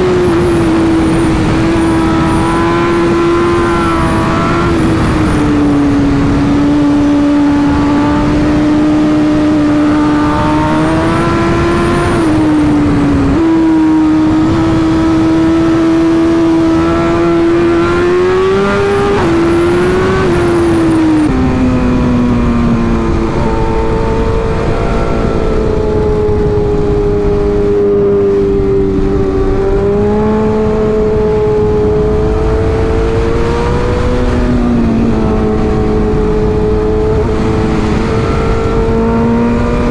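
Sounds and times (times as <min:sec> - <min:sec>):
motorcycle engine running hard: 0:00.0 - 0:39.9
wind rushing over microphone: 0:00.0 - 0:39.9.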